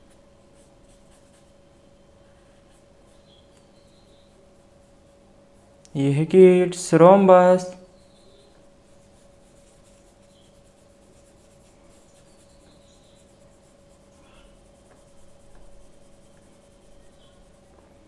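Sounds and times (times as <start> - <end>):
paintbrush scratching on paper: 0.0 - 5.8, 7.9 - 17.8
faint steady hum: 0.0 - 18.0.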